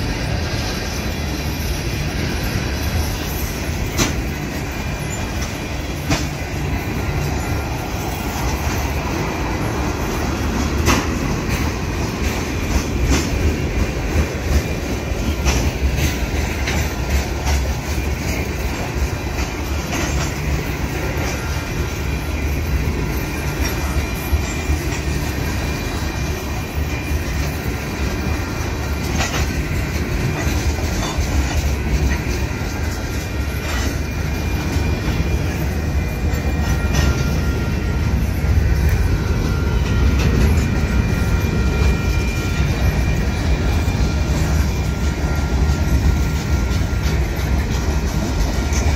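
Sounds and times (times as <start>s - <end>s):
freight train rumbling: 0.0s - 48.9s
wheels clacking over rail joints: 0.0s - 48.9s.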